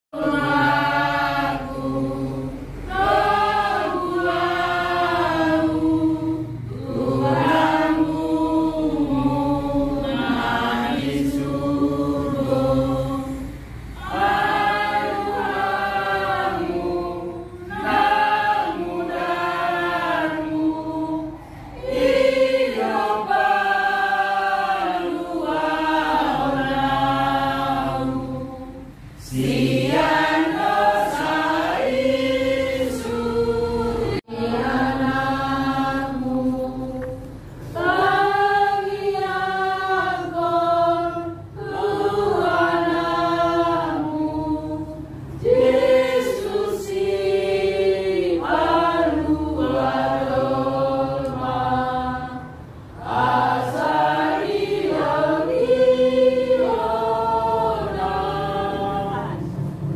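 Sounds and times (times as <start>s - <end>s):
group singing a hymn unaccompanied: 0.1s - 59.9s.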